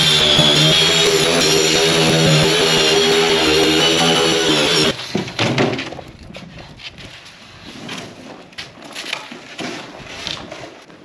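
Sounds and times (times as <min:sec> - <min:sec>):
foam boards creaking and cracking: 0:00.0 - 0:11.0.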